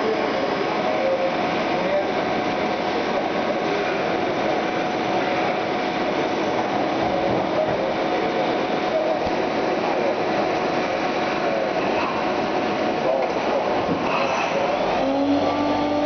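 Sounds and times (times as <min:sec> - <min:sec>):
lathe machine running: 0:00.0 - 0:16.0.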